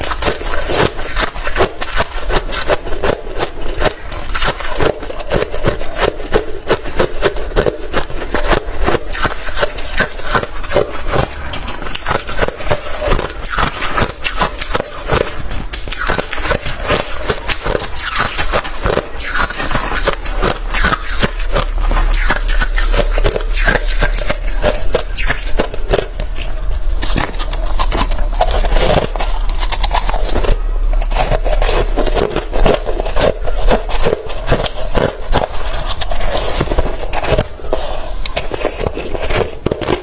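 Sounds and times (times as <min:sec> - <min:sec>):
ice being chewed: 0:00.0 - 0:40.0.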